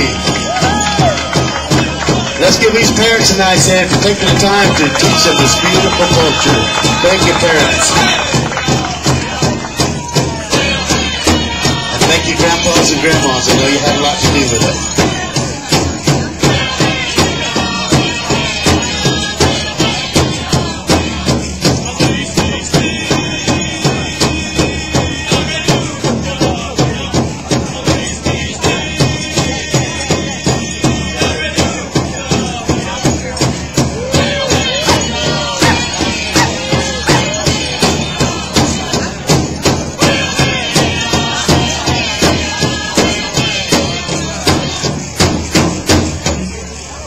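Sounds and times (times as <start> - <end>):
large drum beating: 0.0 - 47.0
voices singing: 0.0 - 47.0.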